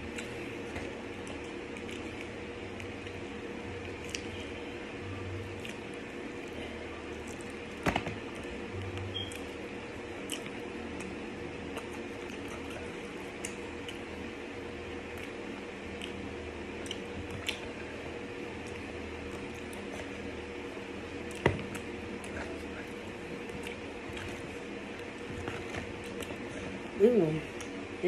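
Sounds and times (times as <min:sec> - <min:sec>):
chewing and mouth sounds: 0:00.0 - 0:04.6, 0:05.4 - 0:14.3, 0:14.9 - 0:27.9
steady room hum: 0:00.0 - 0:28.0.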